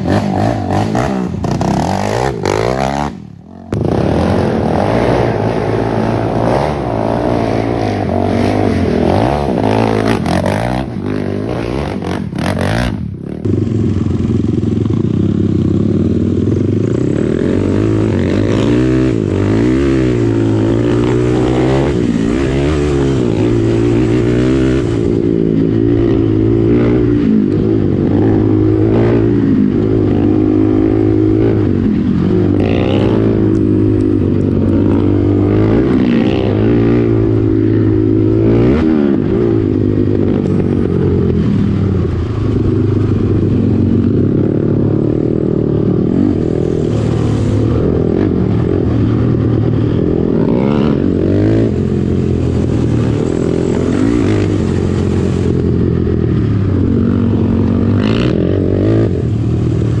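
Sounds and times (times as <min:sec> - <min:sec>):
quad engine revving: 0:00.0 - 1:00.0.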